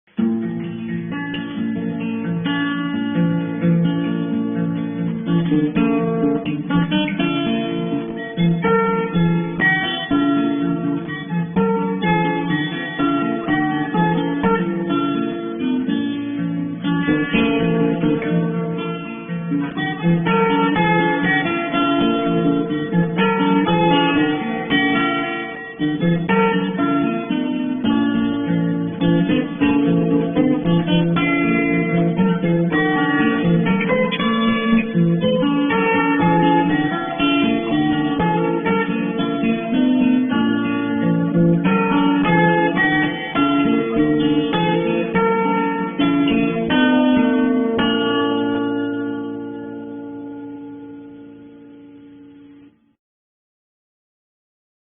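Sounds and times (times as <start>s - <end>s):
acoustic guitar music: 0.0s - 53.0s.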